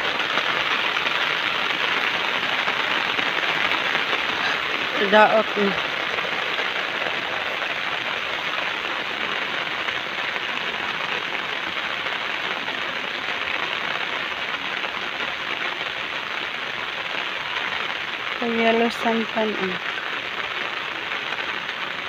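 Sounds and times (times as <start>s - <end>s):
rain falling on shrubs: 0.0s - 22.0s.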